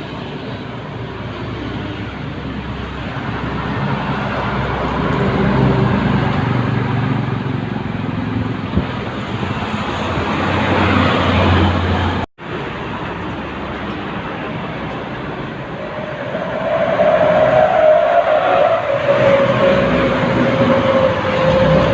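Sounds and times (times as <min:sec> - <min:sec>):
diesel truck engine passing: 0:00.0 - 0:21.9
road noise: 0:00.0 - 0:21.9
traffic noise: 0:00.0 - 0:21.9.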